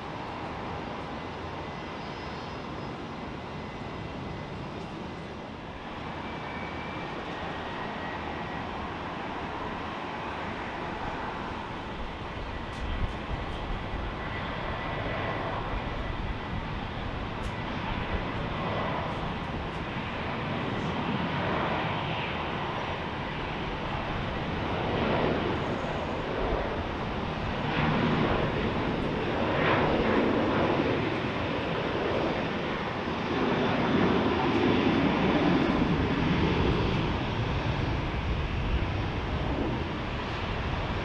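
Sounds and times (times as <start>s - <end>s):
jet engines at takeoff: 0.0s - 41.0s.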